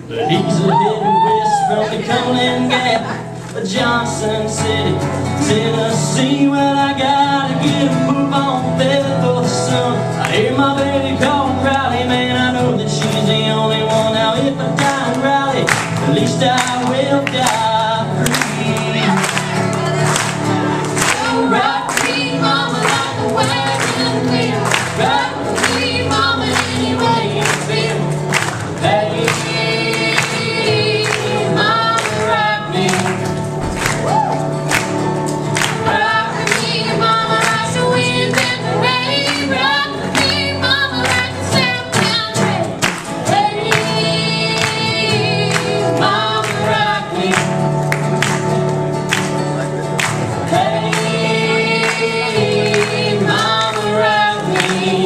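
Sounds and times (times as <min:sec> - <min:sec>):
man and woman singing duet: 0:00.0 - 0:34.4, 0:35.6 - 0:47.7, 0:50.4 - 0:55.0
acoustic guitar strumming: 0:00.0 - 0:55.0.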